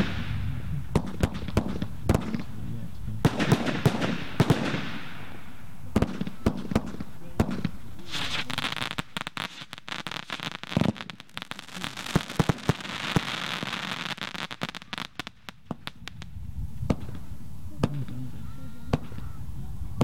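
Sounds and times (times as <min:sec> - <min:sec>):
fireworks bangs: 0:00.0 - 0:19.4
fireworks crackle: 0:00.0 - 0:19.4.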